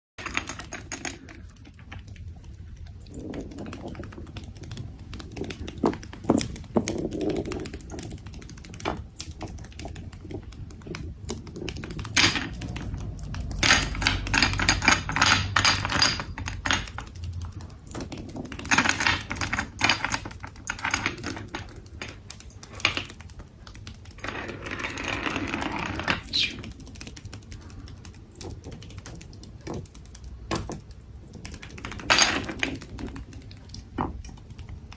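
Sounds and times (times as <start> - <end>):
parrot clicking and tapping: 0.2 - 34.9.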